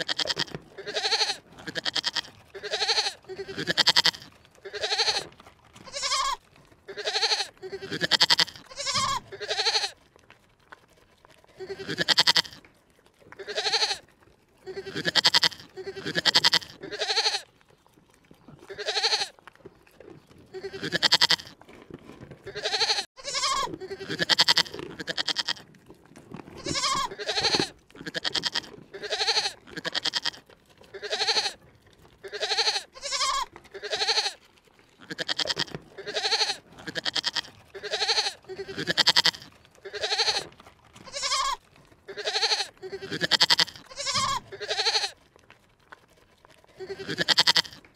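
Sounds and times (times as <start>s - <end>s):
animal bleating: 0.0s - 10.0s, 11.4s - 17.6s, 18.4s - 19.5s, 20.2s - 21.6s, 22.4s - 25.7s, 26.6s - 45.2s, 46.6s - 47.9s.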